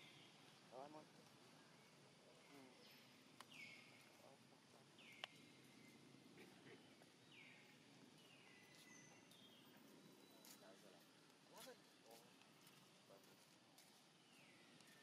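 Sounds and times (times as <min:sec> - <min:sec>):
quiet outdoor ambience: 0:00.0 - 0:15.0.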